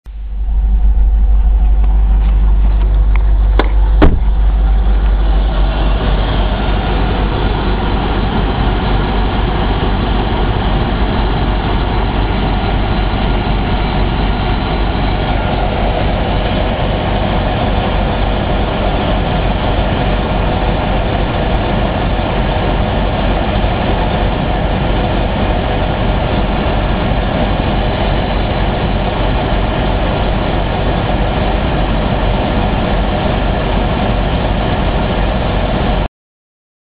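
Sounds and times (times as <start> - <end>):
car engine idling: 0.0 - 36.1.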